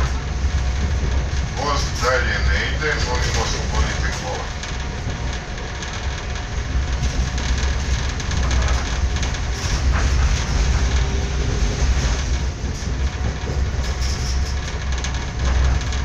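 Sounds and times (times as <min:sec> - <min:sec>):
train rumbling inside carriage: 0:00.0 - 0:16.0.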